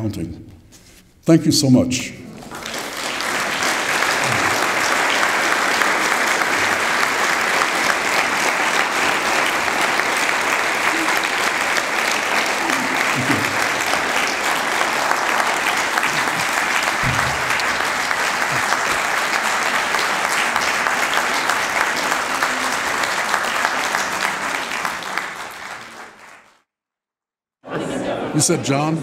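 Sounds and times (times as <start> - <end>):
audience applauding: 2.2 - 26.6.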